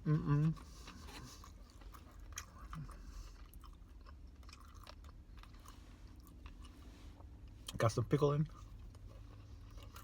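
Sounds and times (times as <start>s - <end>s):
chewing food: 0.3s - 7.8s, 8.4s - 10.0s.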